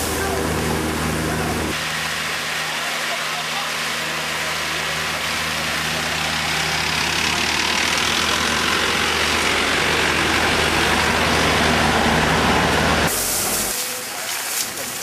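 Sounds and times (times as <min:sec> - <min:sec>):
van engine running at low revs: 0:00.0 - 0:13.7.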